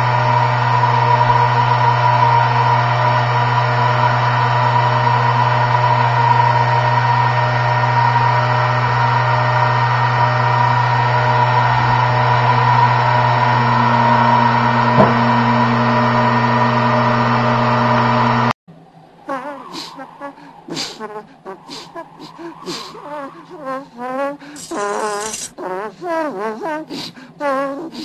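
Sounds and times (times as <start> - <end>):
gyro humming with high whine: 0.0 - 23.6.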